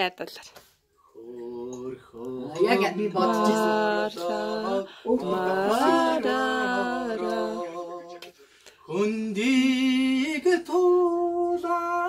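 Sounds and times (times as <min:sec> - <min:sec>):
person singing unaccompanied: 0:01.2 - 0:12.0.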